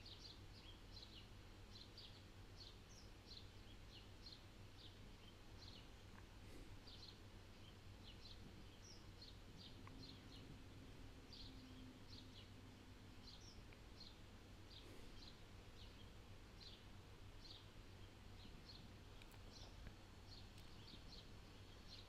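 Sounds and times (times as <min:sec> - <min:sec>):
low steady hum: 0:00.0 - 0:22.0
small birds chirping: 0:00.0 - 0:22.0.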